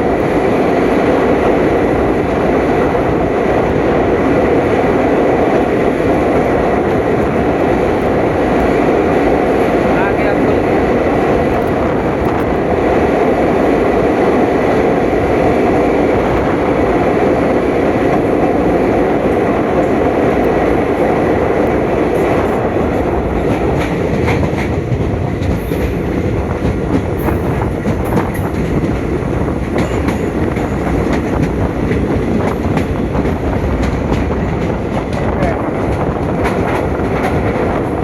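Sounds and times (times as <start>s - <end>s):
rail clatter and clicks: 0.0s - 38.0s
train wheels rumbling on rails: 0.0s - 38.0s.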